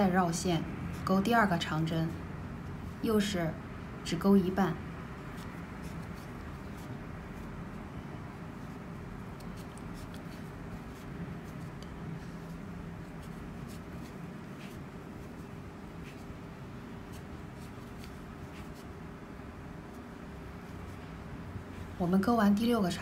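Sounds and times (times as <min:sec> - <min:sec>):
crochet hook and yarn rustling: 0:00.0 - 0:23.0
steady low hum: 0:00.0 - 0:23.0.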